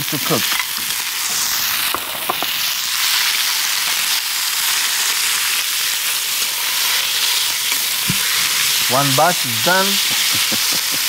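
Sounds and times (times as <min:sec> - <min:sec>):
beef sizzling in a wok: 0:00.0 - 0:11.0.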